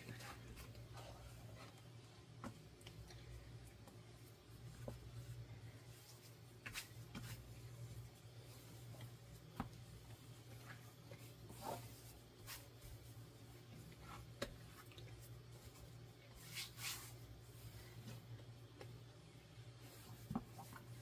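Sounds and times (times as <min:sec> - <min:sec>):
hands kneading wet dough: 0:00.0 - 0:21.0.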